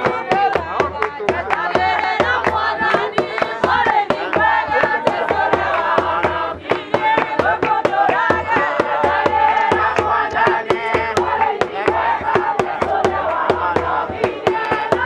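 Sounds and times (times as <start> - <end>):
fast percussive beat: 0.0 - 15.0
group of voices singing: 0.0 - 15.0.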